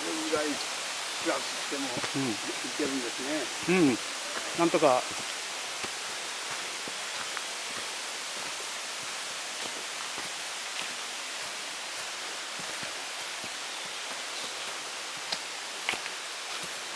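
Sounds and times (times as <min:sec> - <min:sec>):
steady hiss: 0:00.0 - 0:16.9
footsteps in dry leaves: 0:01.3 - 0:16.9.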